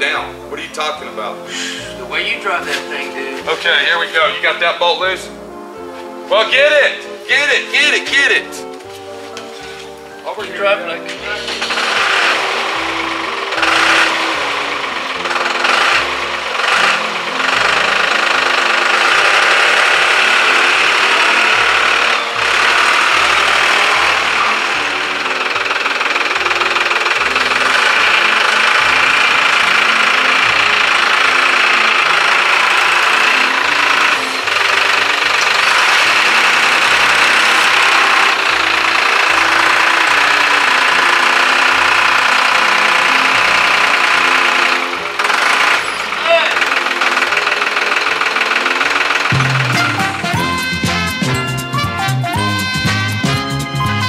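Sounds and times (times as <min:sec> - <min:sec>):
background music with bass line: 0:00.0 - 0:46.6, 0:49.3 - 0:54.0.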